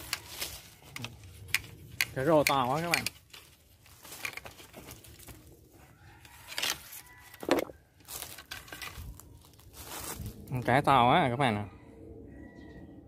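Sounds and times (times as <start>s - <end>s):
rustling and crinkling handling: 0.0s - 10.7s.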